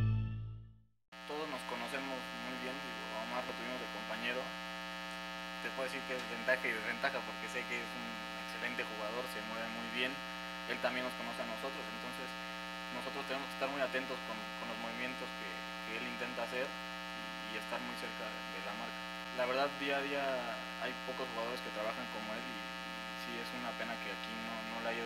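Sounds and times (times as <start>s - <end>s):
buzzy electrical mains hum: 1.2s - 25.0s.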